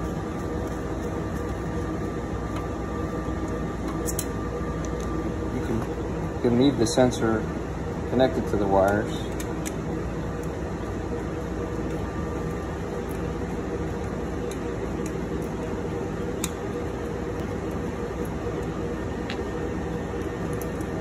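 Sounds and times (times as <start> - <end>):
fan and air-conditioning hum: 0.0 - 21.0.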